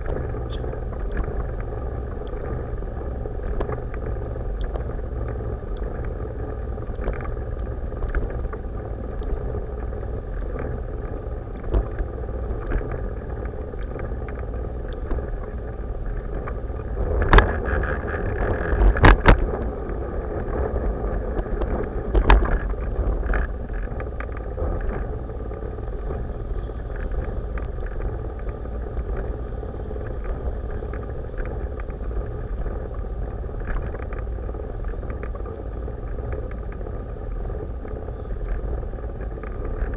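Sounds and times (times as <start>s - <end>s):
board wheels rolling on pavement: 0.0s - 39.9s
wheels knocking over bumps: 0.0s - 39.9s.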